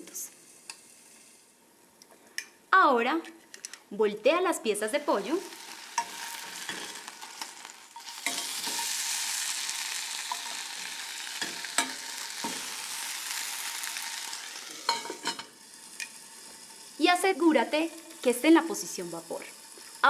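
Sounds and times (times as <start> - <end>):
chicken sizzling in a pan: 0.0 - 1.6, 4.9 - 20.0.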